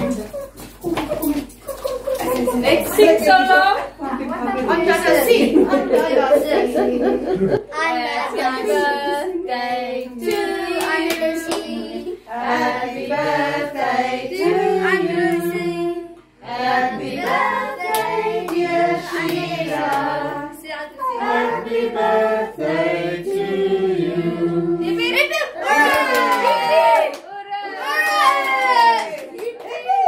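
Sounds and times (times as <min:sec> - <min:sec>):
family singing together: 0:00.0 - 0:27.0.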